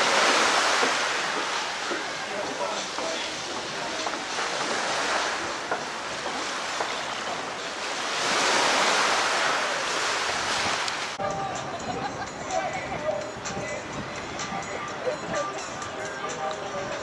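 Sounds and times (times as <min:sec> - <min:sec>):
sea waves washing in: 0:00.0 - 0:16.0.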